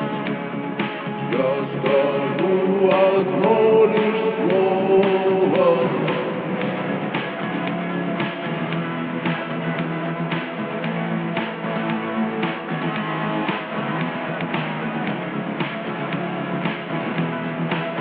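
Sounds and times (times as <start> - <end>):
drum hits: 0.0 - 18.0
slowed lo-fi rock band music: 0.0 - 18.0.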